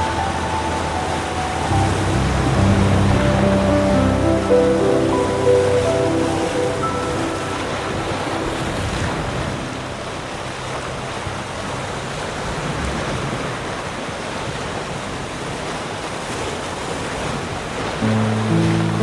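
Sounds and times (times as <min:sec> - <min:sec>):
ocean surf washing on beach: 0:00.0 - 0:19.0.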